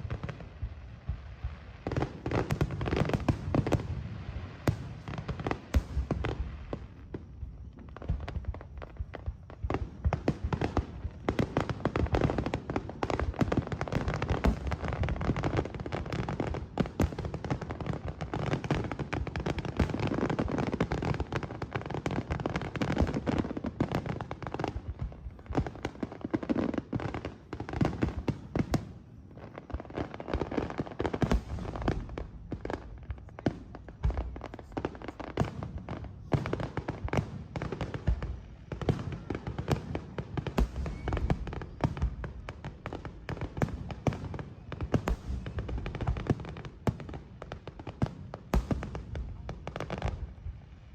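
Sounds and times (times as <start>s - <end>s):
fireworks bangs and crackling: 0.0s - 50.9s
low fireworks booms: 0.0s - 50.9s.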